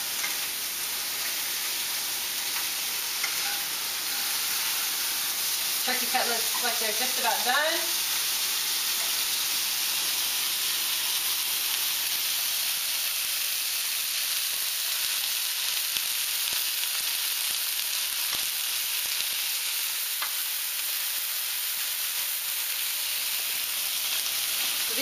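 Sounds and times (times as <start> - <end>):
meat sizzling in pans: 0.0 - 25.0.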